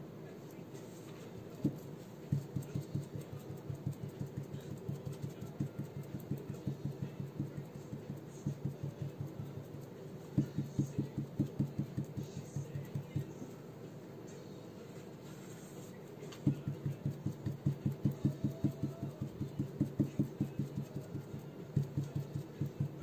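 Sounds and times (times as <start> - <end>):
sponge dabbing soft taps: 1.1 - 13.3, 16.3 - 23.0.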